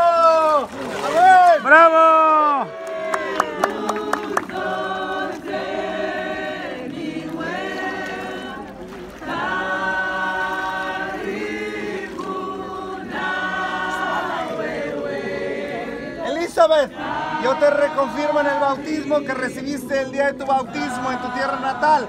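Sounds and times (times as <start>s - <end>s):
group of voices singing: 0.7s - 22.0s.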